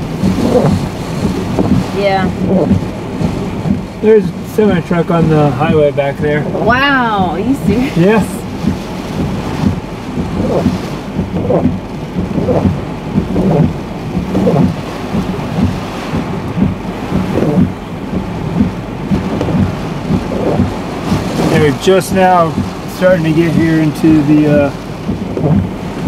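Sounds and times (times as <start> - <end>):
deep rumble: 0.0 - 26.0
driving rain: 0.0 - 26.0
hurricane wind: 0.0 - 26.0.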